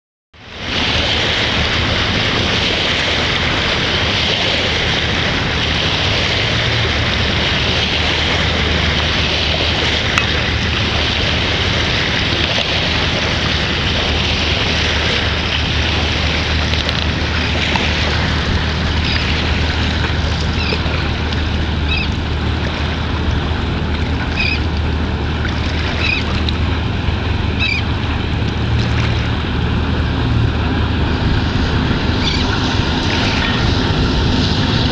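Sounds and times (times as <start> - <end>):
boat engine humming: 0.4 - 34.9
wind noise on microphone: 0.4 - 34.9.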